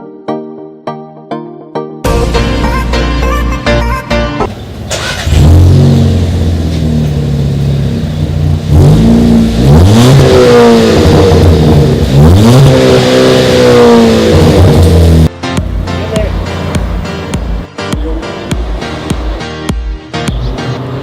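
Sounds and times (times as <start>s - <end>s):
car engine idling and revving: 2.1s - 21.0s.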